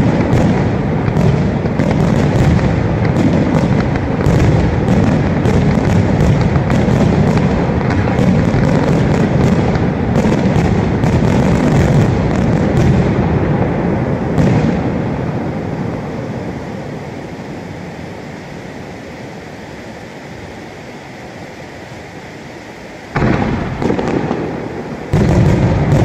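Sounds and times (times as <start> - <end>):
fireworks booming: 0.0 - 19.7, 23.1 - 26.0
fireworks cracking: 0.0 - 26.0.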